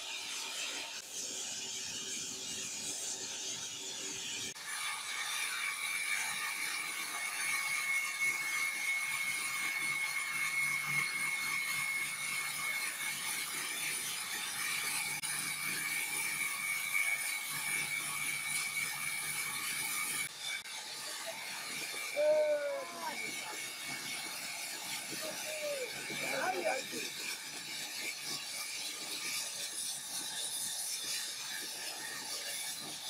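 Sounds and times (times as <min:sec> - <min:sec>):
band saw cutting wood: 0:00.0 - 0:33.0.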